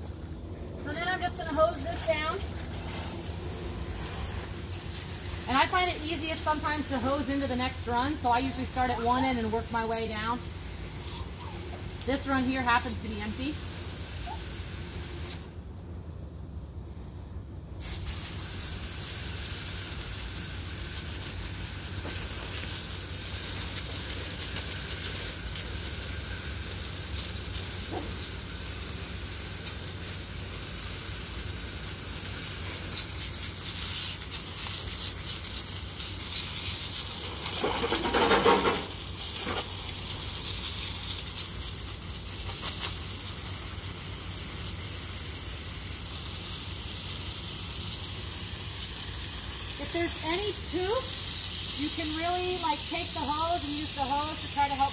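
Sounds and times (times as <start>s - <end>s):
hose nozzle spraying concrete: 0.9s - 15.6s, 17.8s - 54.9s.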